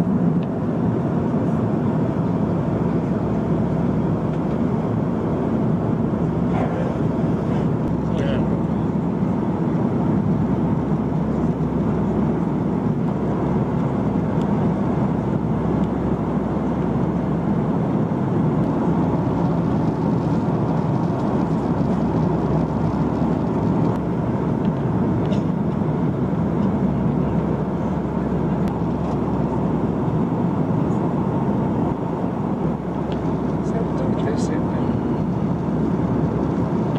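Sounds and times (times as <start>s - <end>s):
jet engines droning: 0.0s - 36.9s
rush of airflow: 0.0s - 36.9s.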